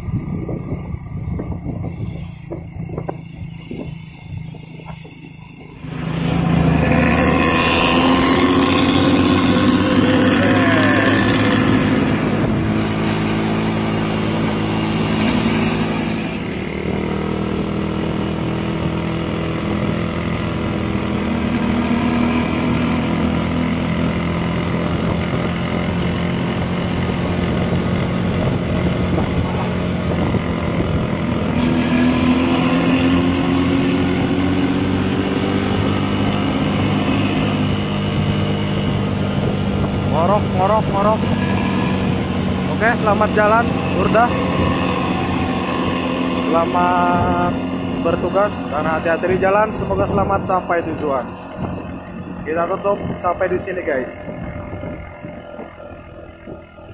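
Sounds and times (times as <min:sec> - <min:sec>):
bus engine growling drone: 0:00.0 - 0:56.9.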